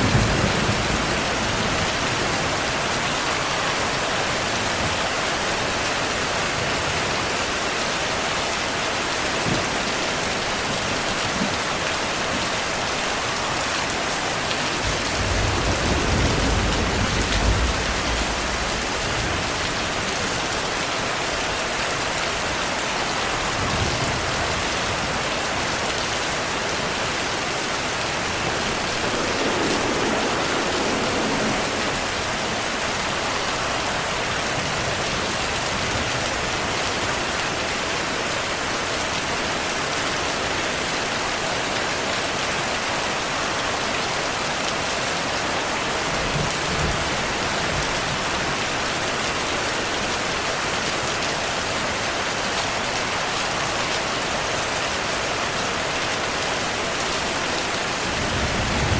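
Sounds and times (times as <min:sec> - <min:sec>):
heavy rainfall: 0:00.0 - 0:58.9.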